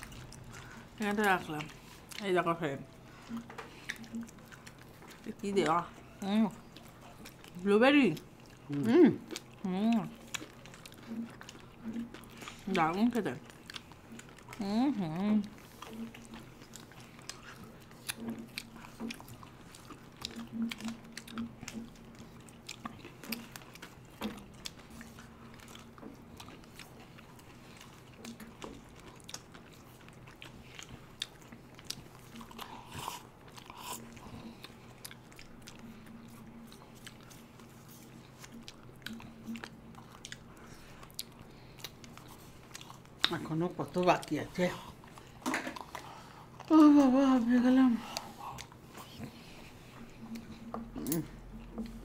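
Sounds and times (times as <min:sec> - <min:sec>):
mouth clicks and chewing: 0:00.0 - 0:47.4, 0:48.0 - 0:52.0
faint low hum: 0:00.0 - 0:52.0.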